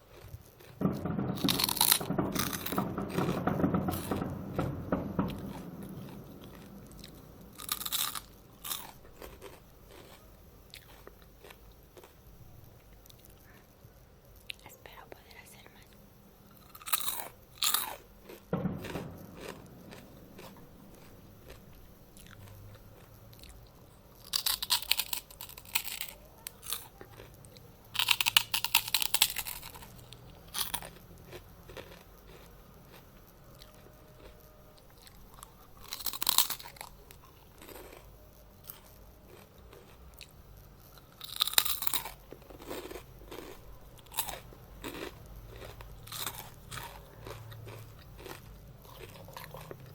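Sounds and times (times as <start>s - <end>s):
quiet chewing: 0.0s - 0.9s, 5.6s - 28.6s, 29.2s - 49.9s
crisp snack crunching: 0.0s - 4.2s, 5.2s - 12.2s, 16.5s - 49.9s.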